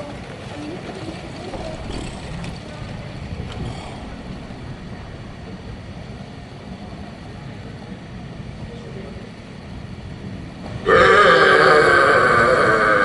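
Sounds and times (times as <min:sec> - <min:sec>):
low rumbling public place noise: 0:00.0 - 0:13.0.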